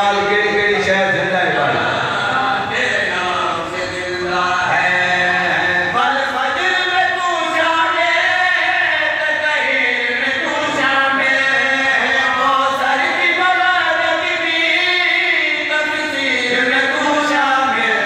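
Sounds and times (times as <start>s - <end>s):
men chanting a lament: 0.0s - 18.0s.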